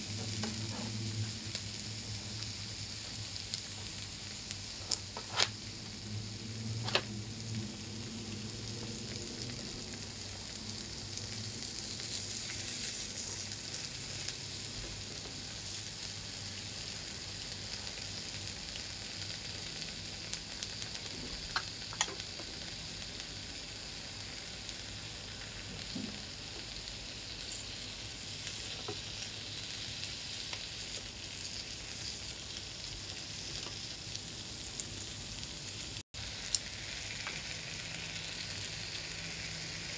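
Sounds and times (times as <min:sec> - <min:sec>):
meat sizzling on grill pan: 0:00.0 - 0:39.9.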